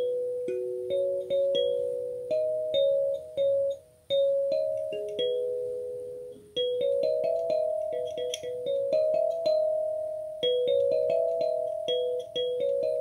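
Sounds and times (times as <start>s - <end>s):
kalimba melody: 0.0s - 13.0s.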